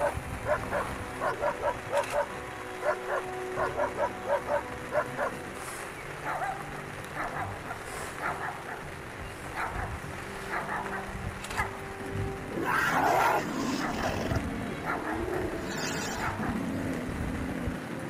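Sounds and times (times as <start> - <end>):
hounds baying: 0.0 - 5.6, 6.2 - 8.9, 9.5 - 11.8, 12.5 - 16.8.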